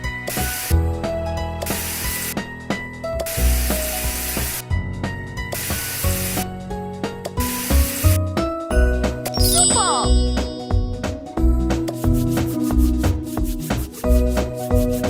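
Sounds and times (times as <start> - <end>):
upbeat background music: 0.0 - 15.0.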